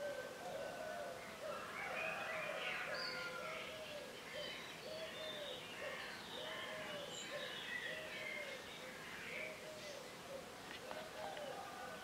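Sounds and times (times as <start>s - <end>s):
dove cooing: 0.0s - 8.6s, 9.3s - 12.0s
songbirds chirping and whistling: 0.0s - 12.0s.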